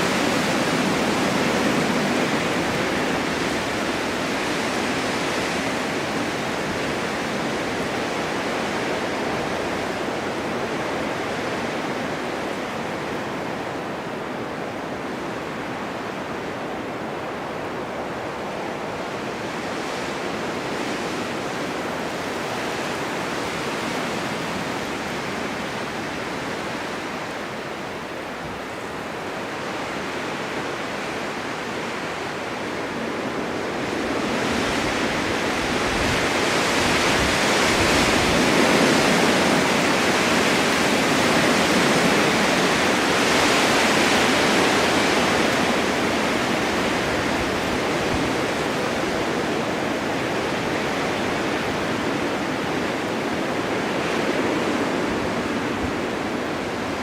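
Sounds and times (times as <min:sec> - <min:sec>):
blizzard wind blowing snow: 0:00.0 - 0:57.0.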